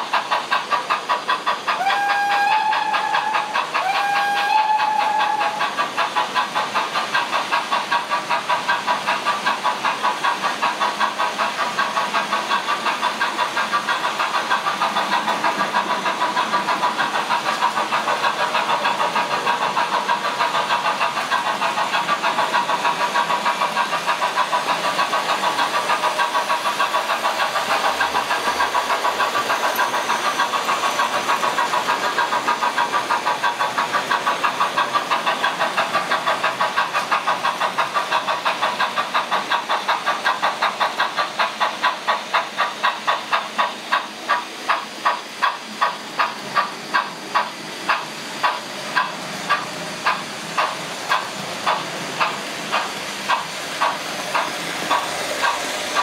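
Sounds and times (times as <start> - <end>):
model trains clattering on track: 0.0 - 56.0.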